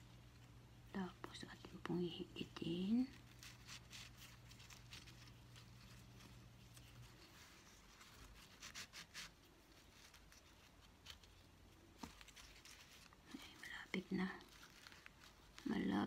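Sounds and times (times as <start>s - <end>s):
ribbon rustling: 1.7s - 16.0s.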